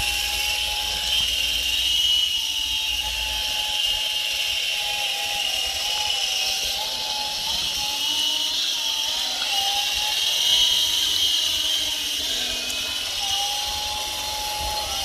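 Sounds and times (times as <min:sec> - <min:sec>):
toy helicopter rotors whirring: 0:00.0 - 0:15.0.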